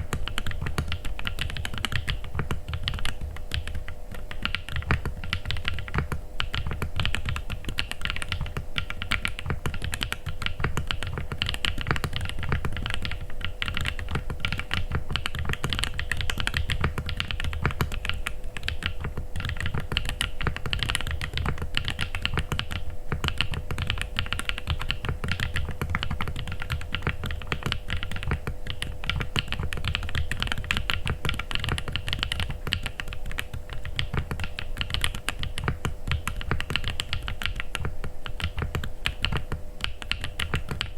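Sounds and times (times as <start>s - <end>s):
faint steady hum: 0.0s - 40.9s
fast typing on mechanical keyboard: 0.0s - 40.9s.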